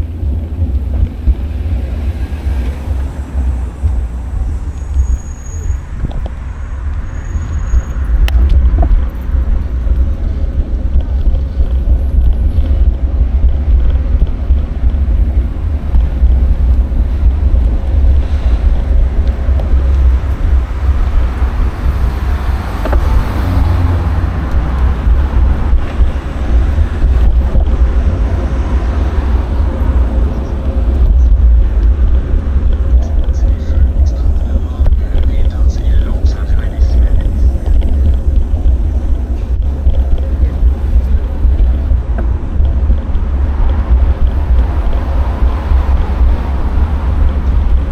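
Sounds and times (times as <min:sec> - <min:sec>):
street traffic: 0:00.0 - 0:47.9
vehicle passing: 0:00.0 - 0:47.9
wind buffeting microphone: 0:00.0 - 0:47.9.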